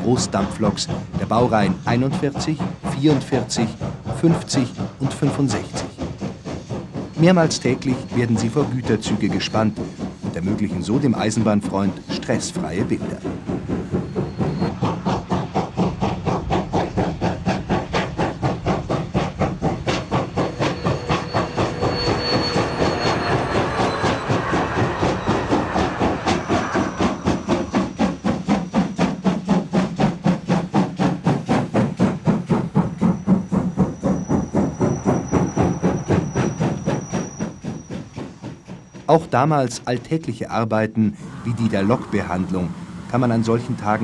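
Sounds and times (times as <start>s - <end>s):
steam locomotive chuffing: 0.0s - 44.0s.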